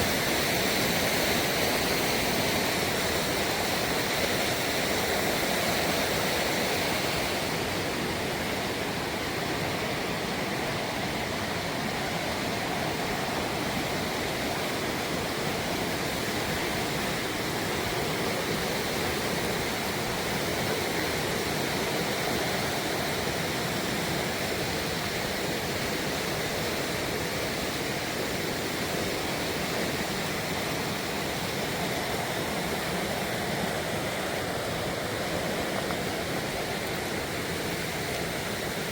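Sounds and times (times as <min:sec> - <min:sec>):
fast-flowing river water: 0:00.0 - 0:38.9.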